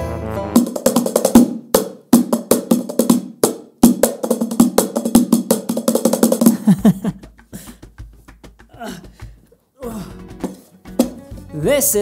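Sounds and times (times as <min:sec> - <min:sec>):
cajon played by hand: 0:00.6 - 0:11.8.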